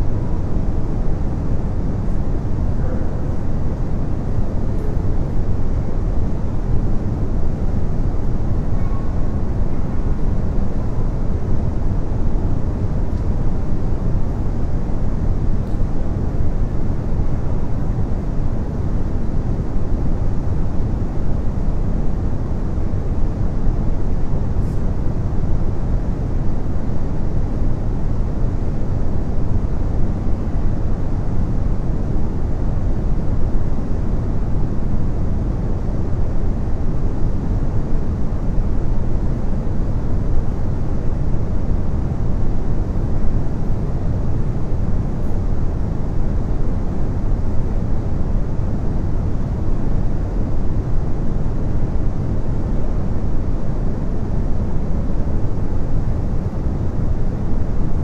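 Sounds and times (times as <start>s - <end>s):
steady low-pitched noise: 0.0s - 58.0s.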